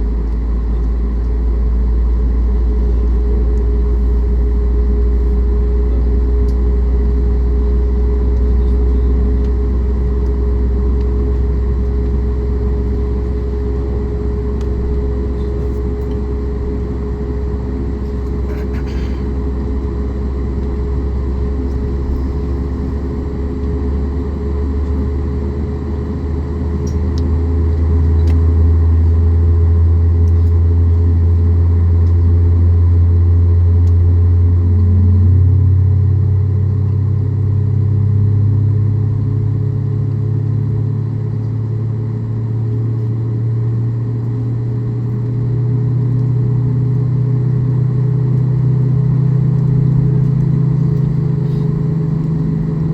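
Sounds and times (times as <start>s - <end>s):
constant hum: 0.0s - 52.9s.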